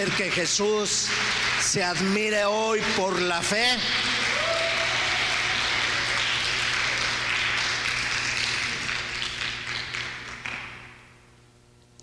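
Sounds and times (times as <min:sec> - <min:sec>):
congregation applauding: 0:00.0 - 0:11.1
faint steady hum: 0:00.0 - 0:12.0.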